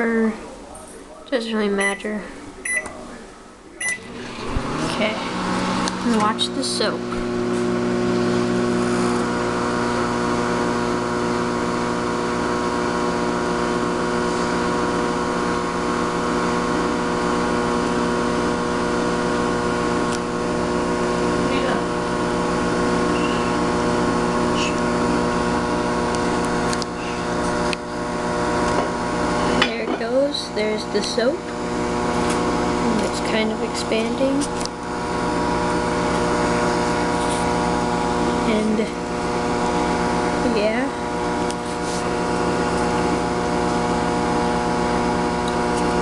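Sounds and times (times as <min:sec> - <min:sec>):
microwave oven humming: 0:01.6 - 0:46.0
microwave fan noise: 0:01.7 - 0:46.0.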